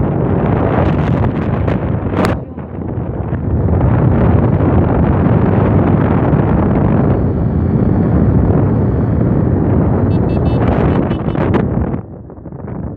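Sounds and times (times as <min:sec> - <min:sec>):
motorcycle engine running: 0:00.0 - 0:12.9
wind rushing over microphone: 0:00.0 - 0:12.9.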